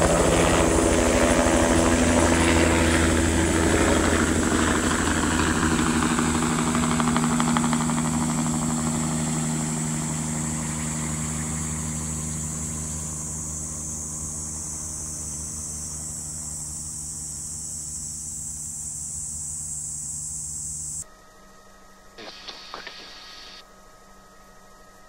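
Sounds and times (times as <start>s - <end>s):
helicopter rotor tones: 0.0s - 21.0s, 22.2s - 23.6s
helicopter turbine whine: 0.0s - 23.9s
faint hum: 0.0s - 25.0s.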